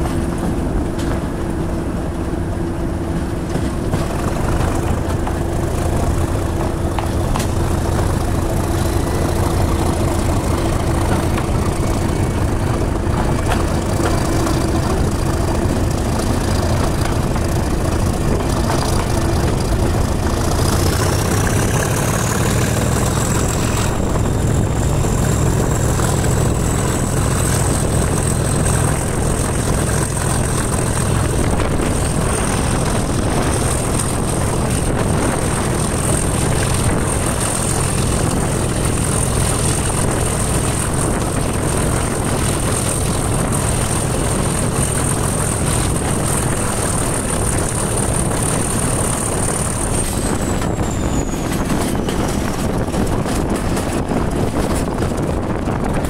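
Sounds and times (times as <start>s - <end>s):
diesel locomotive engine thrashing: 0.0s - 56.0s
wind rushing past microphone: 0.0s - 56.0s.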